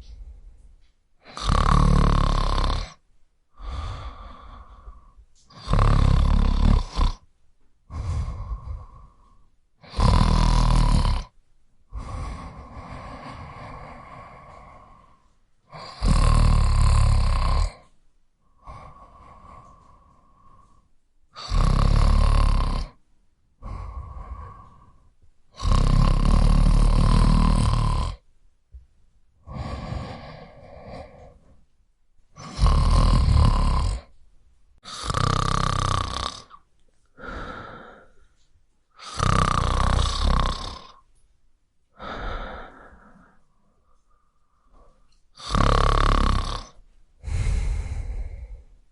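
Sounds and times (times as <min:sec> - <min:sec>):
person snoring: 0:01.2 - 0:07.3, 0:07.9 - 0:17.9, 0:18.5 - 0:23.0, 0:23.6 - 0:28.2, 0:29.4 - 0:31.6, 0:32.4 - 0:34.2, 0:34.8 - 0:38.3, 0:38.9 - 0:41.0, 0:42.0 - 0:48.8
soft breaths: 0:02.9 - 0:10.2, 0:11.8 - 0:22.0, 0:22.8 - 0:48.9.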